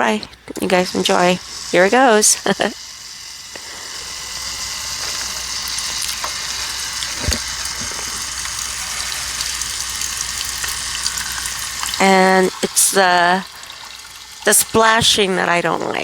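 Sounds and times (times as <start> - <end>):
coffee brewer hissing and sputtering: 0.0 - 16.0.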